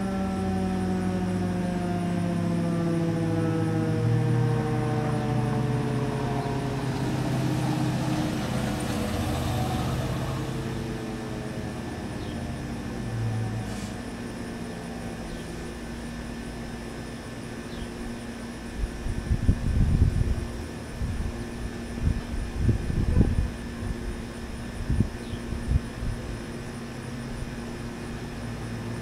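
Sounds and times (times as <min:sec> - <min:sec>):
warning siren winding down: 0:00.0 - 0:29.0.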